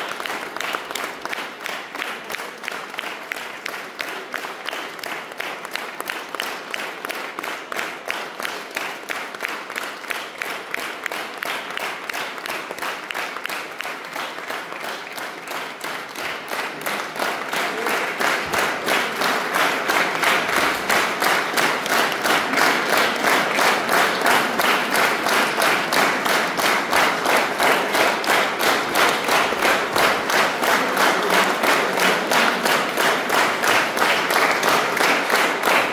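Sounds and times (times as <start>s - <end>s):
audience clapping in rhythm: 0.0s - 35.9s.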